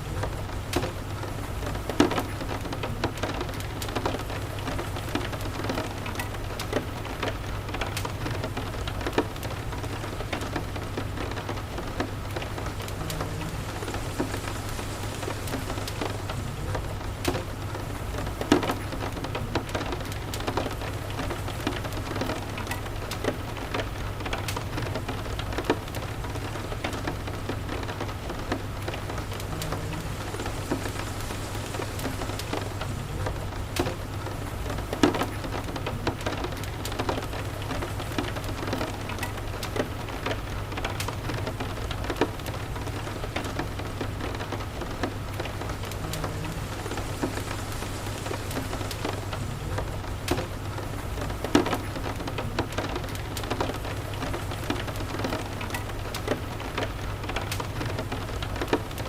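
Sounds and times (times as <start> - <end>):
rain pattering: 0.0 - 59.0
wood fire crackling: 0.0 - 59.0.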